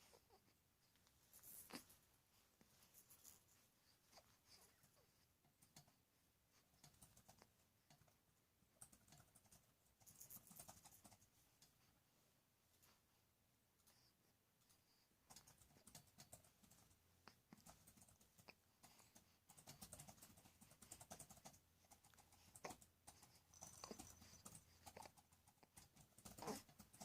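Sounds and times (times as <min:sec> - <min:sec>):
small clicks and rustling: 0:02.6 - 0:11.9, 0:14.6 - 0:27.0.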